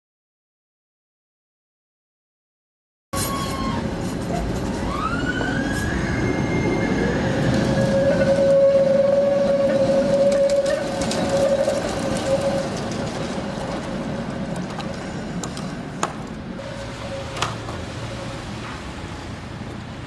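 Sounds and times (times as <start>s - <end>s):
trams rumbling and whining: 3.2s - 20.0s.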